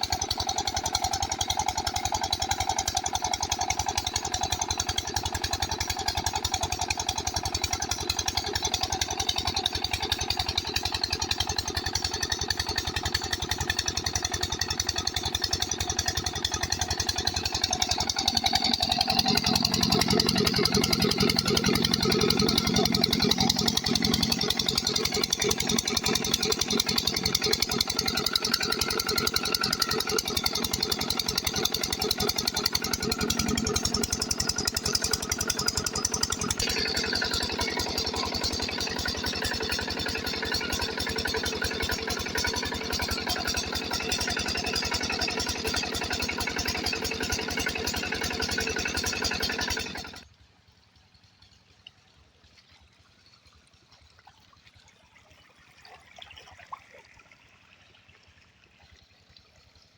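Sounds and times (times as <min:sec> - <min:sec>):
diesel pump engine running: 0:00.0 - 0:50.4.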